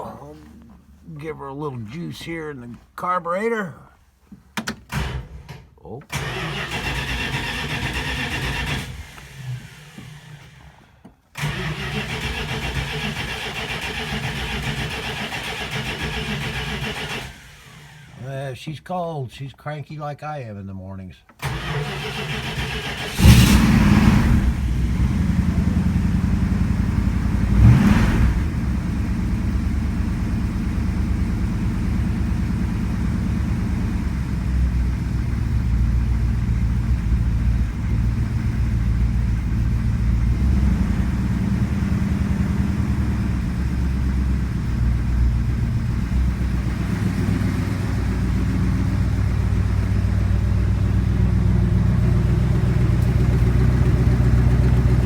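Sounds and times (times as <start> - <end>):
car engine revving and idling: 6.1 - 18.3, 21.4 - 55.0.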